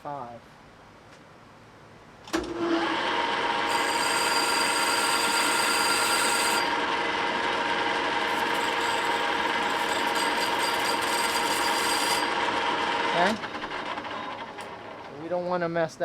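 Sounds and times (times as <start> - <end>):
milling machine whine: 2.4 - 15.3.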